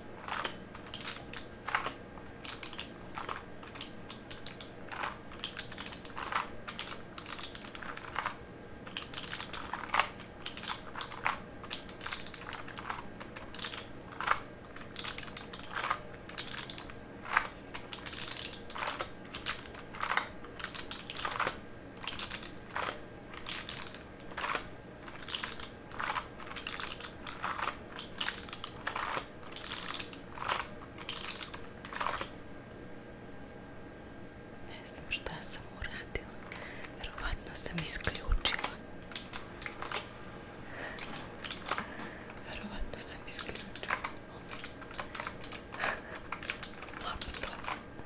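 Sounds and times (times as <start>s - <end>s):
mechanical keyboard typing: 0.0s - 32.3s, 35.9s - 40.1s, 40.8s - 47.9s.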